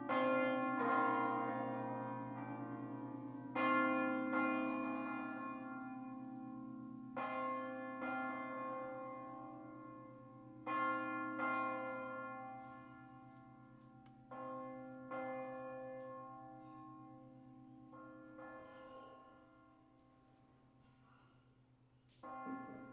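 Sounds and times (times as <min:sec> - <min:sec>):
church bells ringing: 0:00.0 - 0:20.7, 0:22.2 - 0:22.9.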